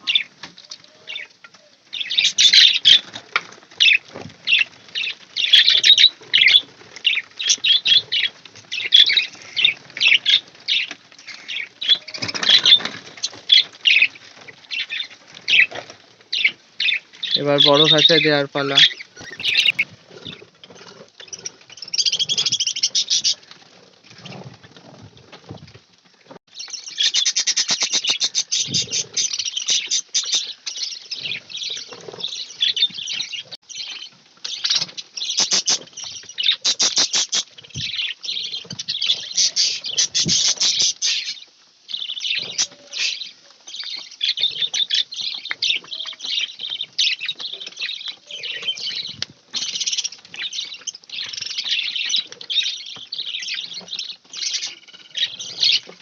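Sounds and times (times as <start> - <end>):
budgerigars chirping and chattering: 1.9 - 3.2, 3.8 - 14.1, 14.7 - 20.4, 26.7 - 41.4, 42.0 - 55.9.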